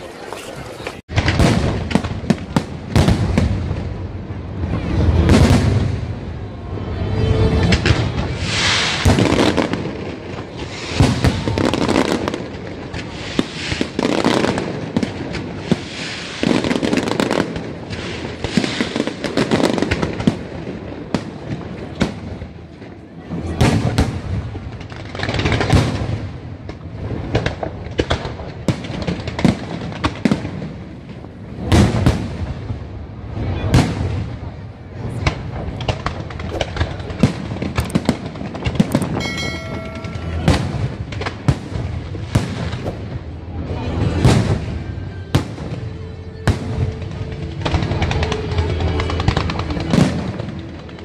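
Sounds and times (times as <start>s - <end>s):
firework crackles: 0.0s - 51.0s
fireworks bursting: 0.0s - 51.0s.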